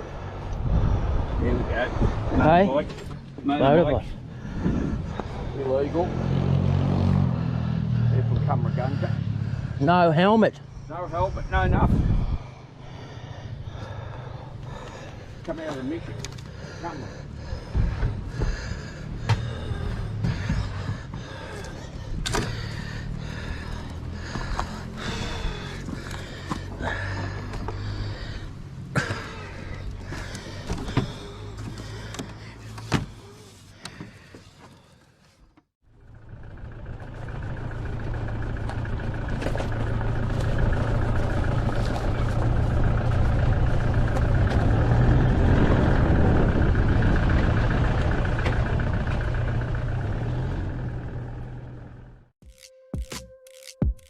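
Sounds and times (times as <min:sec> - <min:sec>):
vehicle engine running: 0:00.0 - 0:33.4, 0:35.8 - 0:52.4.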